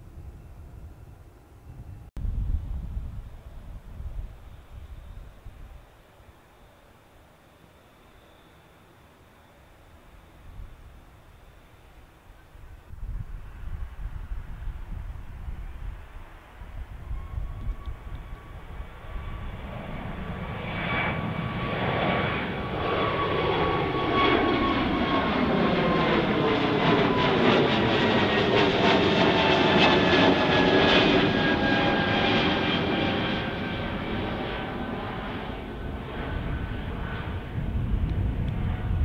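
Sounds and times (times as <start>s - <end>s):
jet airliner passing overhead: 0.0s - 5.7s, 8.1s - 39.0s.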